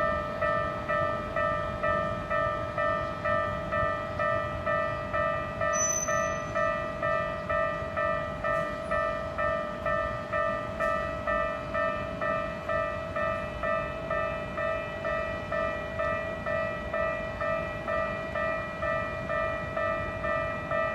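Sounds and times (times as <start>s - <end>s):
railroad crossing bell dinging: 0.0s - 20.9s.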